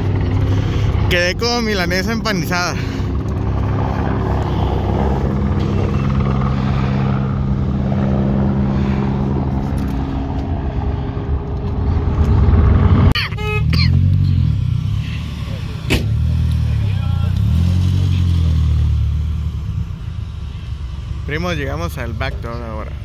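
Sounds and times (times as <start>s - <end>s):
off-road vehicle engines running: 0.0s - 23.0s.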